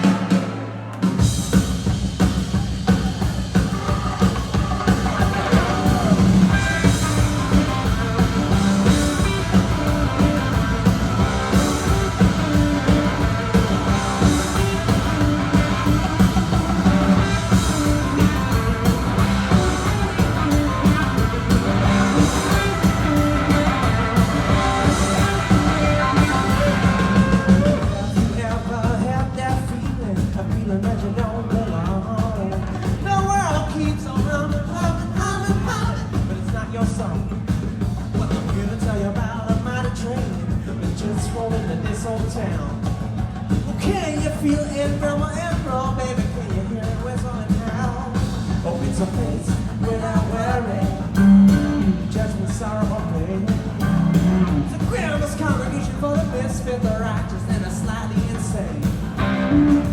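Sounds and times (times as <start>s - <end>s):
drum kit steady beat: 0.0s - 59.9s
live rock band playing: 0.0s - 59.9s.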